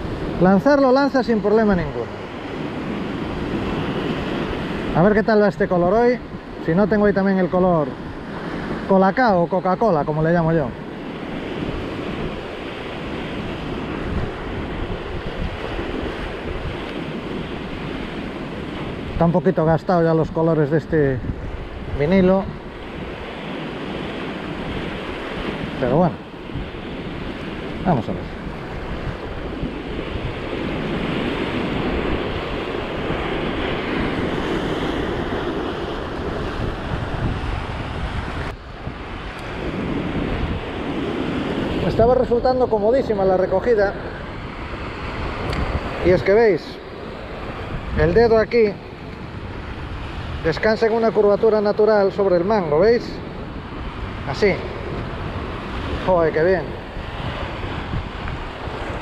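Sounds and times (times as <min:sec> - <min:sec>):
sea surf washing over rocks: 0:00.0 - 0:59.0
wind buffeting microphone: 0:00.0 - 0:59.0.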